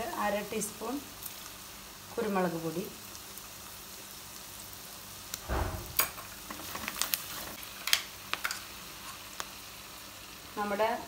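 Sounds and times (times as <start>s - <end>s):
spices sizzling in oil: 0.0s - 11.0s.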